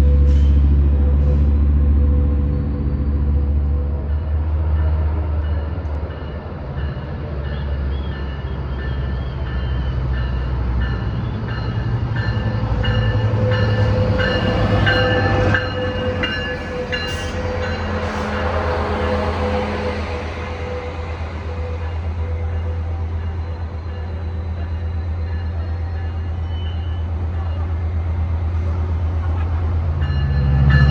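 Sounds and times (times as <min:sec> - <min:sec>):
train rumbling by: 0:00.0 - 0:30.9.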